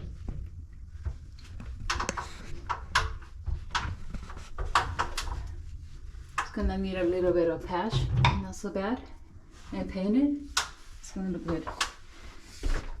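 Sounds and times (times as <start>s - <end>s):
low rumble of handling noise: 0.0s - 13.0s.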